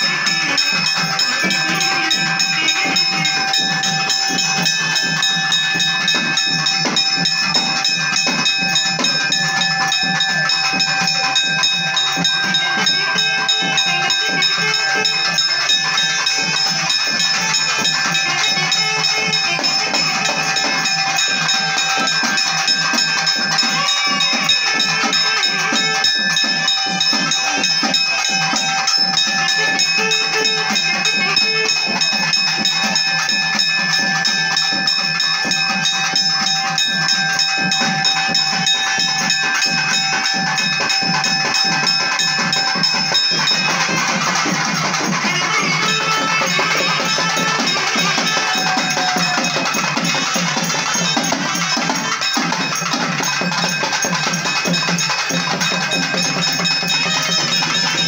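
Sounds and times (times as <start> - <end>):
fast drumming: 0.0 - 58.0
held high tone: 0.0 - 58.0.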